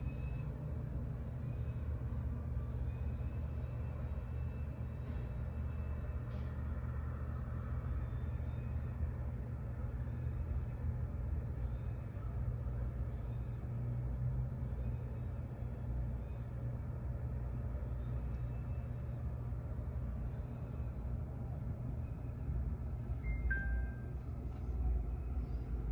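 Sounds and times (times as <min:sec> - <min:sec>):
city background rumble: 0:00.0 - 0:25.9.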